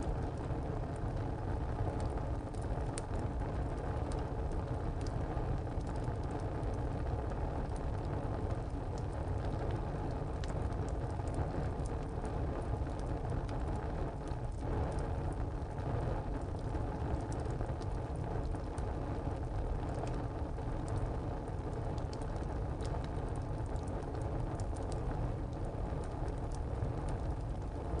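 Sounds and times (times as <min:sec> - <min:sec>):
burning wood crackling and popping: 0:00.0 - 0:28.0
low rush of flame: 0:00.0 - 0:28.0.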